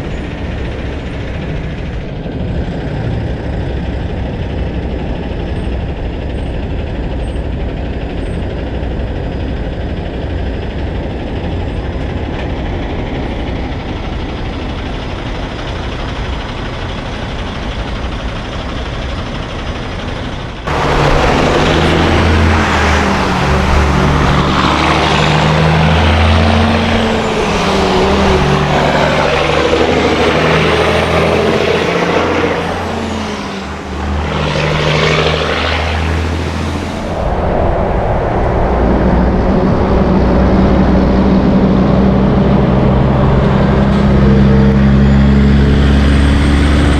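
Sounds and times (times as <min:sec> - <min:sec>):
close truck deep engine: 0:00.0 - 0:37.2, 0:40.1 - 0:46.9
diesel trucks on road: 0:00.0 - 0:46.9
road noise: 0:00.0 - 0:46.9.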